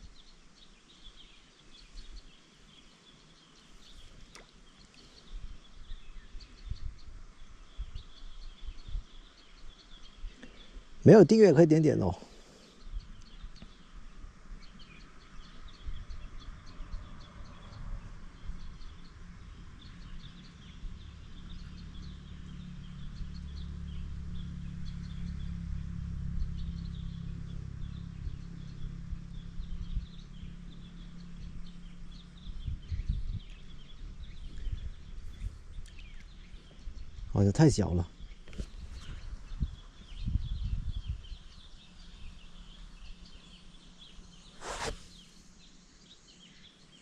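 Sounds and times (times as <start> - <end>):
birds chirping: 0.0 - 19.2, 19.8 - 47.0.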